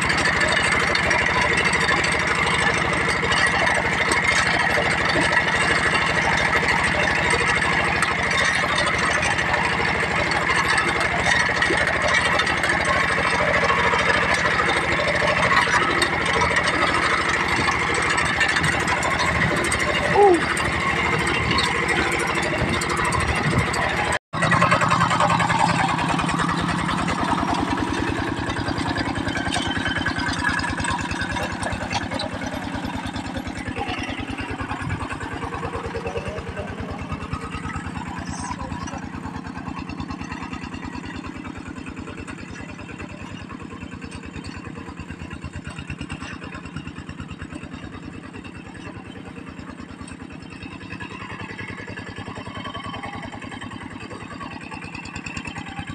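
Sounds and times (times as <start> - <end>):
diesel tractor engine running: 0.0 - 55.9.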